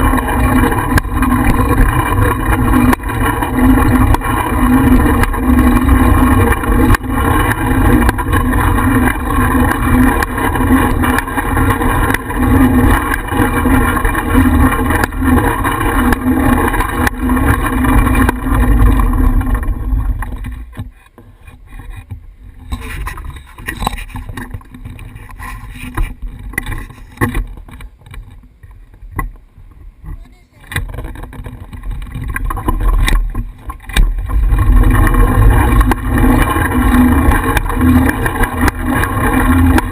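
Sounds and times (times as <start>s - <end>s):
bicycle tyre road noise: 0.0s - 39.9s.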